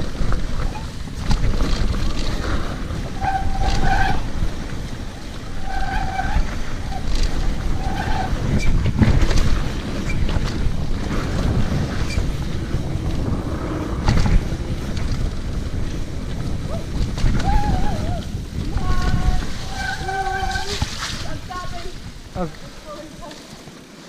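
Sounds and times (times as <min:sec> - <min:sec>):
wind rushing over microphone: 0:00.0 - 0:23.6
bike clattering over rough ground: 0:00.0 - 0:24.0.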